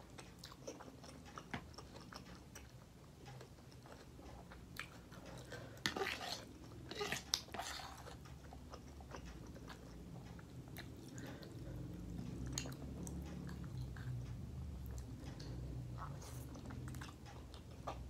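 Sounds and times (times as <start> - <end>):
person chewing noodles: 0.0 - 18.0.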